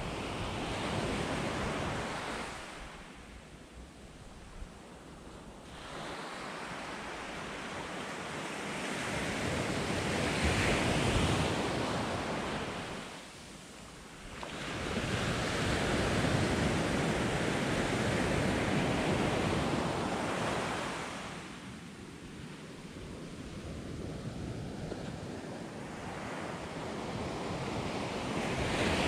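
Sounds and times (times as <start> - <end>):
small waves washing up a beach: 0.0 - 29.0.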